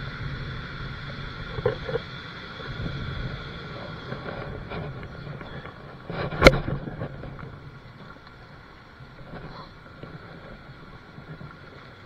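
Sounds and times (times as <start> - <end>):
outdoor wind noise: 0.0 - 12.0.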